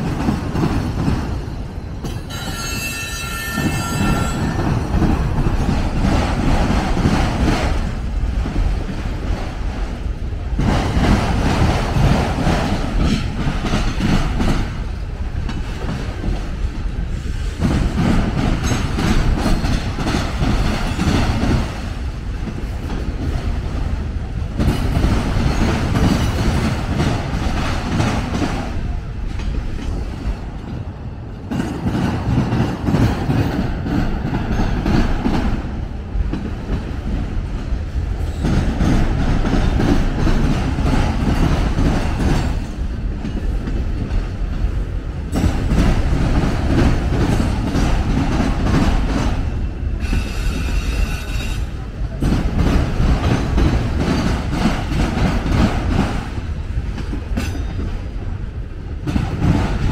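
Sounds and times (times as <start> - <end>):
freight train wheels rolling: 0.0 - 59.9.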